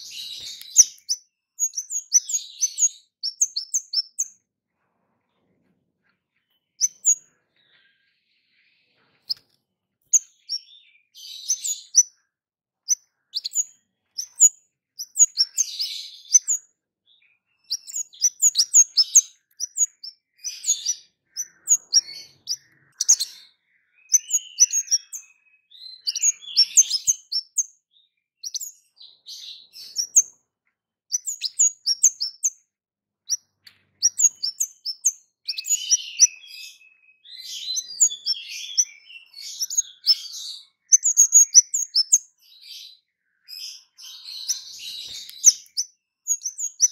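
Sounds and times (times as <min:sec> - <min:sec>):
songbird chirping: 0:00.0 - 0:46.9.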